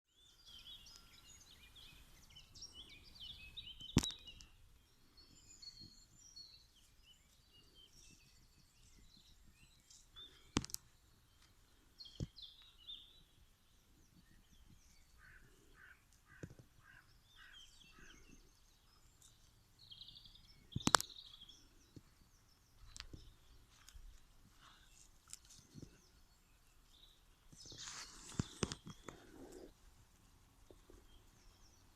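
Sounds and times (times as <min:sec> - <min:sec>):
birds chirping and singing: 0:00.1 - 0:29.8.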